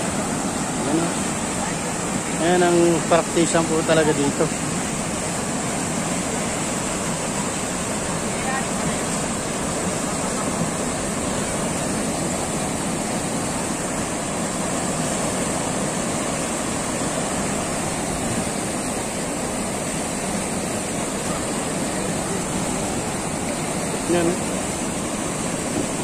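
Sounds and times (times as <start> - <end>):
whitewater rapids rushing: 0.0 - 26.0.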